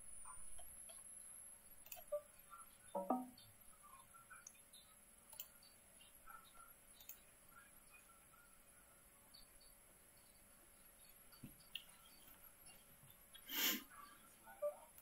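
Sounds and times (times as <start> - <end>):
soft software ticks and chirps: 0.0 - 15.0.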